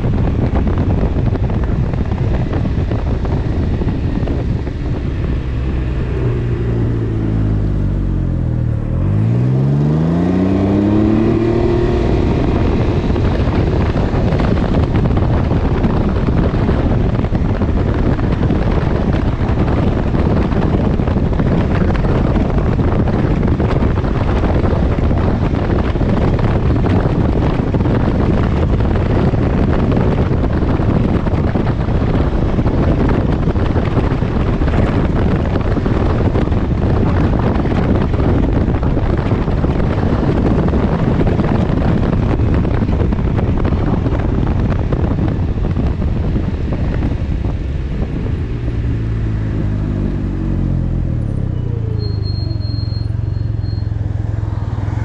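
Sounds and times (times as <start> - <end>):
road and engine noise: 0.0 - 55.0
wind buffeting microphone: 0.0 - 55.0.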